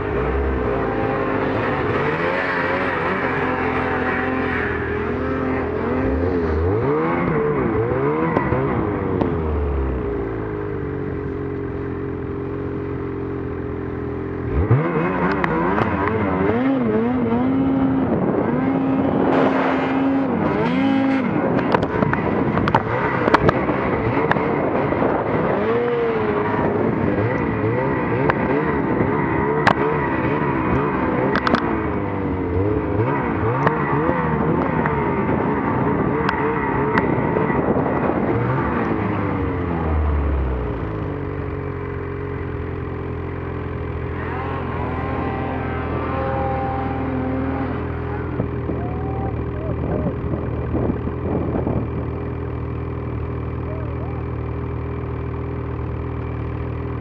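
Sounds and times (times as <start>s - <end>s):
snowmobile engine revving: 0.0s - 10.7s, 14.4s - 56.2s.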